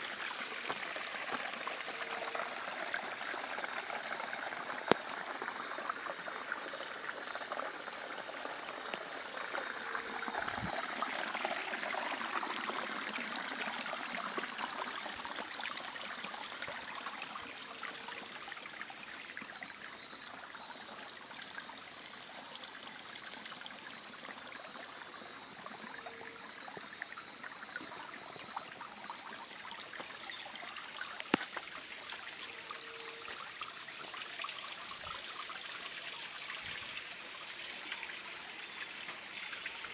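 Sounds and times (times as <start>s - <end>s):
creek water over stones: 0.0s - 39.9s.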